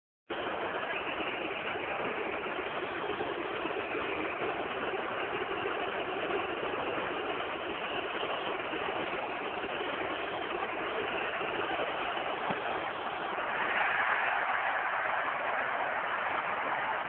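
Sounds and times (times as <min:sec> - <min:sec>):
stadium crowd noise: 0:00.3 - 0:17.0.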